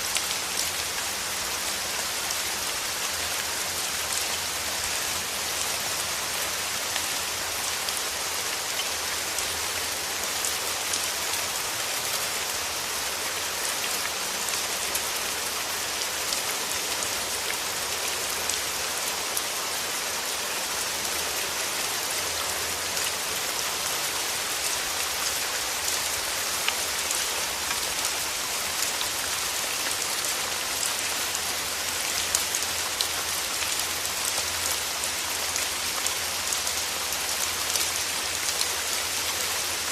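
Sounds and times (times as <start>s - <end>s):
rain hissing through forest trees: 0.0s - 39.9s
raindrops pattering on leaves: 0.0s - 39.9s.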